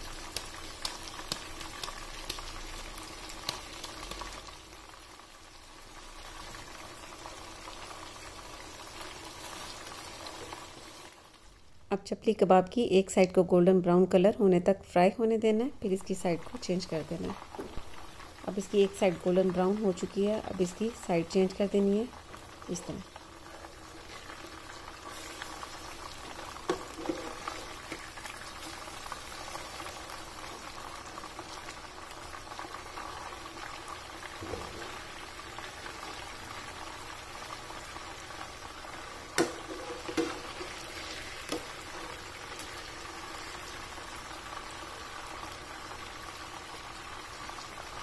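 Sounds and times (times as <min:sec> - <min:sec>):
kebabs sizzling in oil: 0:00.0 - 0:48.0.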